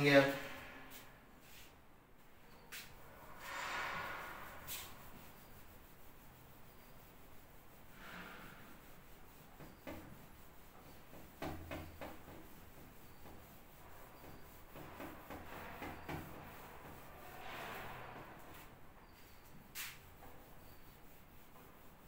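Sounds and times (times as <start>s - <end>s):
duster rubbing on whiteboard: 2.5s - 22.0s.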